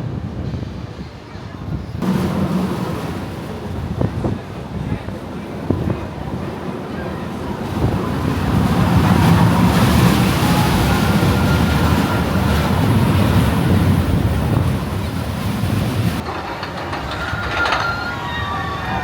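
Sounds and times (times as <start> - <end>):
wind on microphone: 0.0 - 16.2
roller coaster train rumbling: 0.0 - 19.0.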